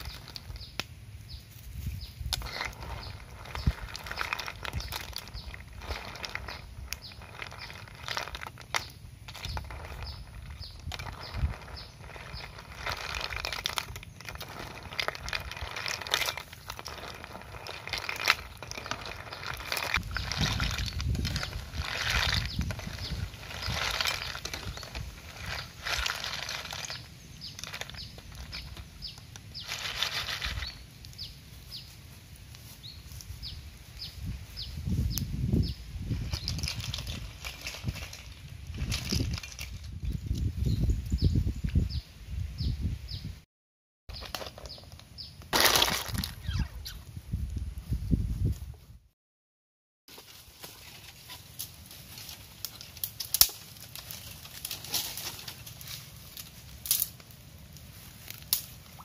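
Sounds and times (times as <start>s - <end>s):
rustling and crinkling handling: 0.0s - 34.8s, 36.0s - 40.4s, 44.1s - 47.0s, 50.1s - 59.0s.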